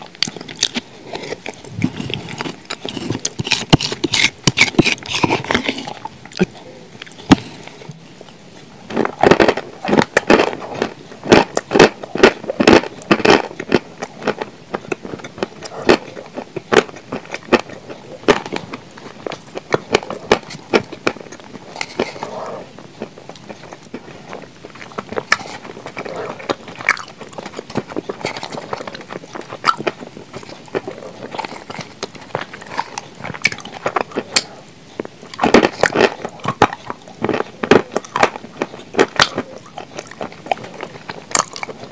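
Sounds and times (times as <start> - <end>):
wet chewing and mouth smacks: 0.0 - 41.9.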